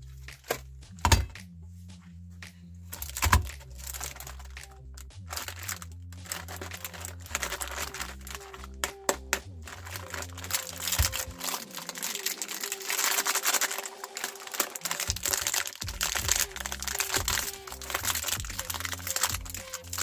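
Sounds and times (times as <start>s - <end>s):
biscuits crackling and crunching: 2.9s - 20.0s.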